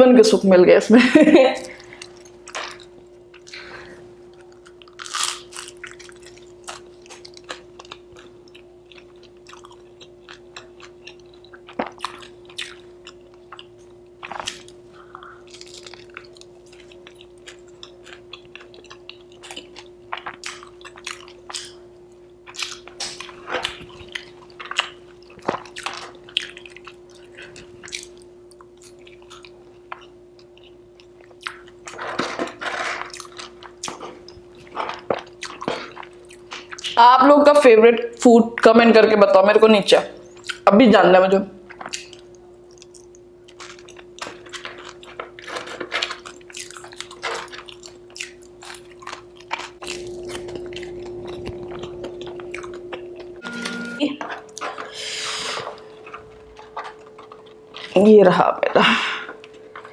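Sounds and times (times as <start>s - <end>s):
steady low hum: 0.0s - 59.9s
chewing and biting food: 1.7s - 37.0s, 40.2s - 40.6s, 41.6s - 53.4s, 55.6s - 58.1s.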